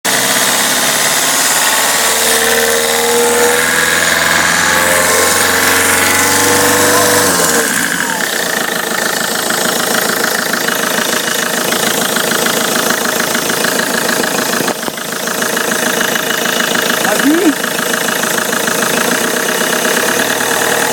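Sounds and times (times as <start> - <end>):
diesel engine revving and idling: 0.0 - 20.9
rapid rhythmic engine clatter: 0.0 - 20.9.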